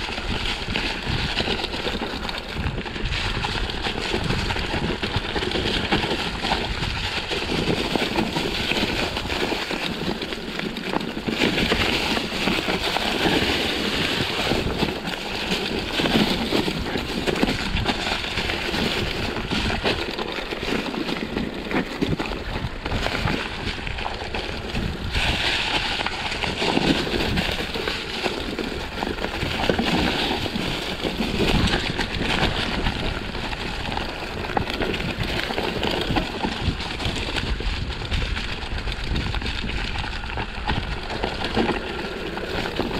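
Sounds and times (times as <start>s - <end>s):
bike tyres rattling over stones: 0.0s - 42.9s
wind on microphone: 0.0s - 42.9s.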